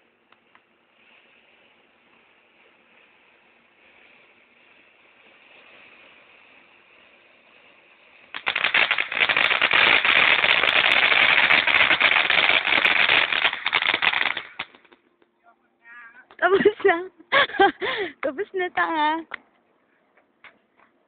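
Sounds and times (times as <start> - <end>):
fireworks crackling: 0.0 - 19.5
faint hiss: 0.0 - 21.0.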